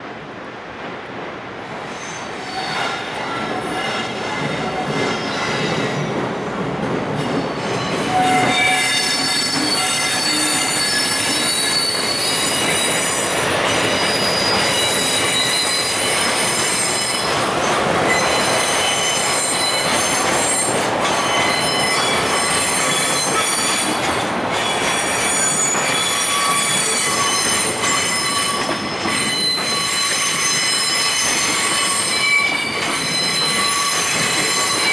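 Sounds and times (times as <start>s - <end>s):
freight train rumbling: 0.0s - 34.9s
train wheels and brakes squealing: 1.7s - 6.6s, 7.2s - 34.9s.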